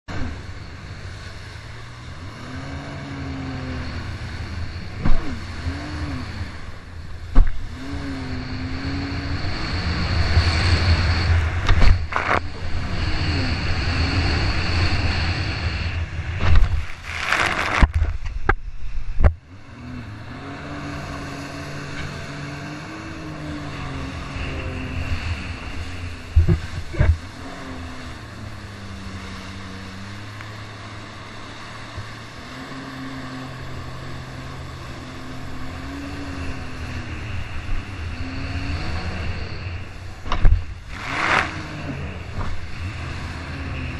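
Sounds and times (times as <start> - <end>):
watercraft engine revving: 0.0 - 43.9
rush of spray: 0.2 - 19.2, 20.4 - 43.9.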